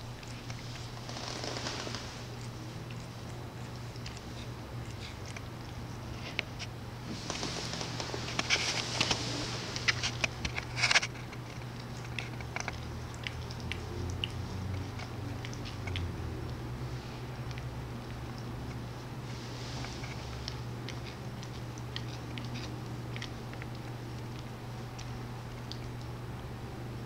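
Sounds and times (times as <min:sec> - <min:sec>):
cat tongue licking fur: 0:00.0 - 0:26.6
steady low hum: 0:00.0 - 0:27.0.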